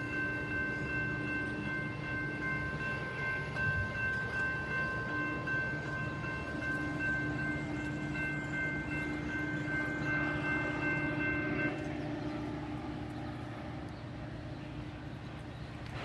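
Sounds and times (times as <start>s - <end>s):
railroad crossing bells ringing: 0.0s - 16.0s
train rumbling: 0.0s - 16.0s.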